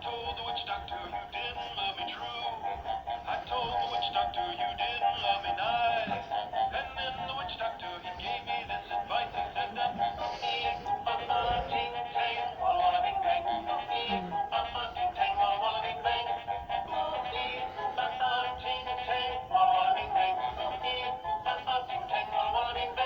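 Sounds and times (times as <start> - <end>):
toy singing through small speaker: 0.0 - 23.0.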